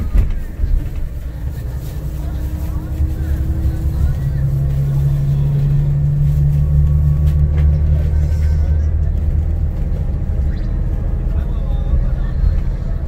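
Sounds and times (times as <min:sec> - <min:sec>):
car engine rumble: 0:00.0 - 0:13.0
tyres on road: 0:00.0 - 0:13.0.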